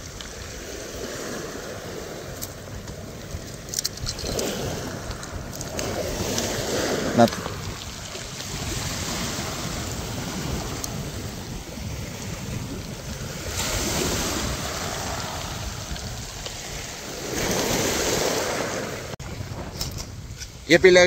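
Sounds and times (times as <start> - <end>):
sea waves washing on shore: 0.0 - 21.0
wind buffeting microphone: 0.0 - 21.0.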